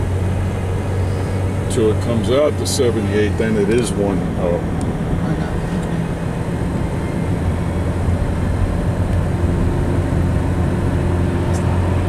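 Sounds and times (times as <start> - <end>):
car engine drone: 0.0 - 12.0
faint high engine tone: 0.0 - 12.0
road and tyre noise: 0.0 - 12.0.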